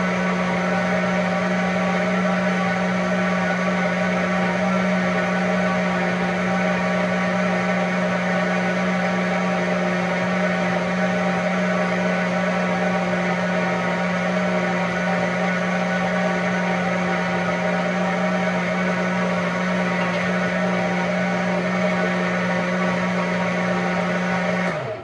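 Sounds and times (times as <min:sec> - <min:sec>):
blender motor running: 0:00.0 - 0:25.0.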